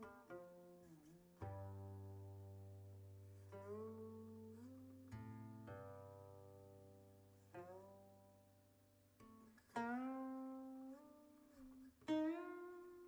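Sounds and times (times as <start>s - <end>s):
plucked string instrument notes: 0.0s - 13.0s.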